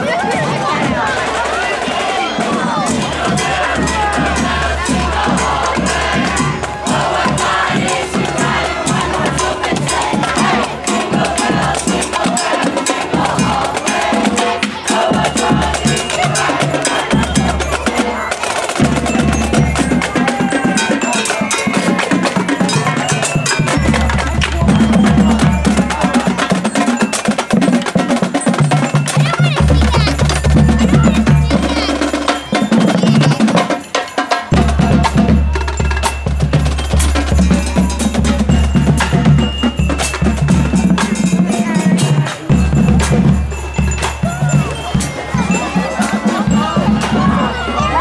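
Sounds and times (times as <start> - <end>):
drumline playing a cadence: 0.2 - 48.0.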